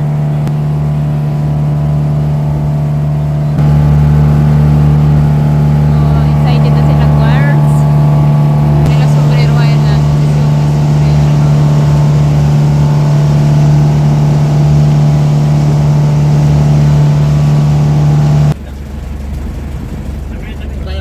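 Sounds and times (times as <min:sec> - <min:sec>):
boat engine drone: 0:00.0 - 0:21.0
low rumble: 0:00.0 - 0:21.0.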